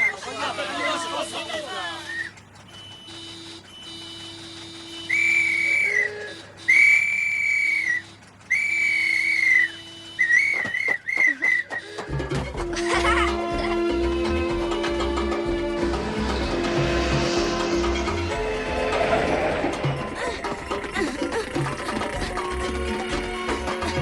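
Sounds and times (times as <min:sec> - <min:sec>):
whistling: 0:00.0 - 0:00.2, 0:01.9 - 0:12.7, 0:14.7 - 0:23.6.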